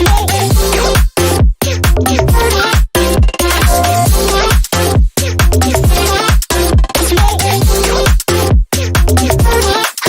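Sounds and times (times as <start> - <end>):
pop music with sliding bass: 0.0 - 10.0.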